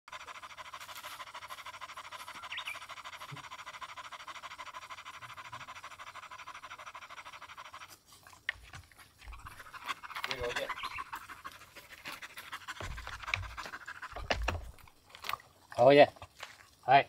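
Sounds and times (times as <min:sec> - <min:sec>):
dog panting: 0:00.1 - 0:15.0.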